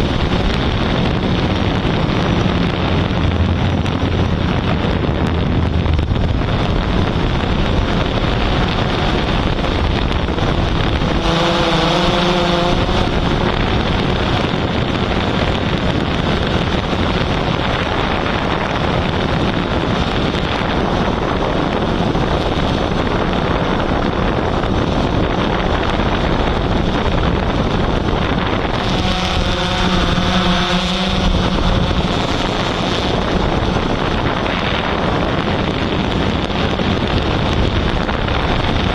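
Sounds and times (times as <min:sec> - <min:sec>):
drone rotor rushing: 0:00.0 - 0:38.9
wind buffeting microphone: 0:00.0 - 0:38.9.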